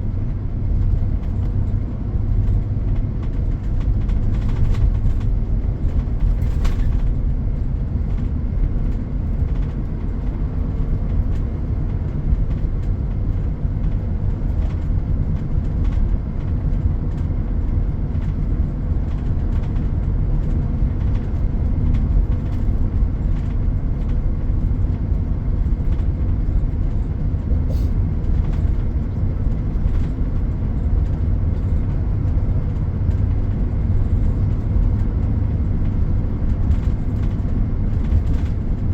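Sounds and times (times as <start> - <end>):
heavy road traffic rumble: 0.0 - 38.9.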